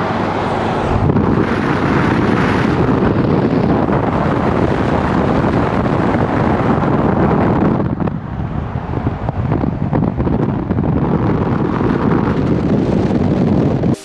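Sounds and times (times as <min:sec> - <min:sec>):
vehicle noise: 0:00.0 - 0:14.0
wind buffeting microphone: 0:00.0 - 0:14.0.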